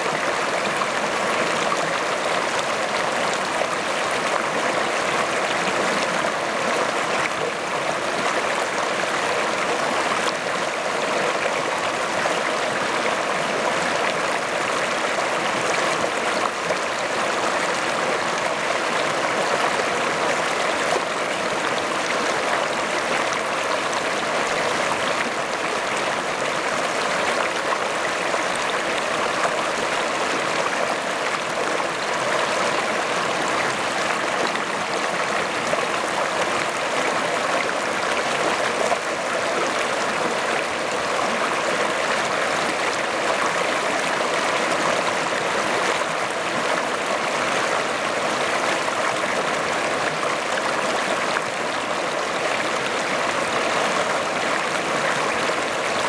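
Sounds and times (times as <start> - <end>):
river rapids rushing over boulders: 0.0 - 56.0.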